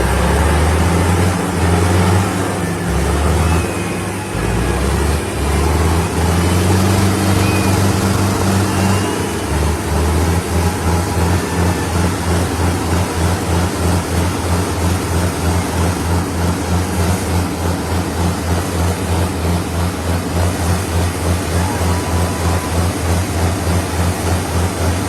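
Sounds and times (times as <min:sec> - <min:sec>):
tractor engines under heavy load: 0:00.0 - 0:25.0.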